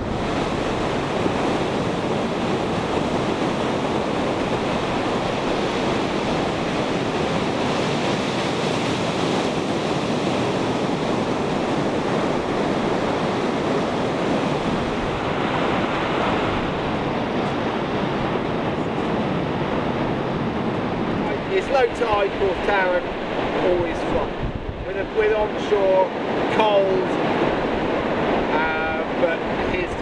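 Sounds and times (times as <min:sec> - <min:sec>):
ocean surf washing onto beach: 0:00.0 - 0:30.0.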